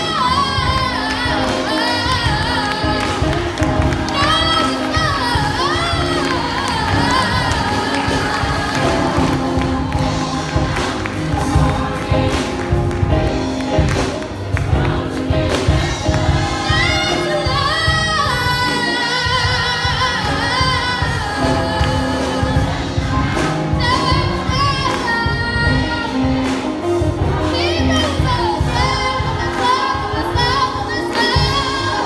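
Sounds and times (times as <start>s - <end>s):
choir singing gospel song: 0.0s - 32.0s
instrumental backing with steady beat: 0.0s - 32.0s.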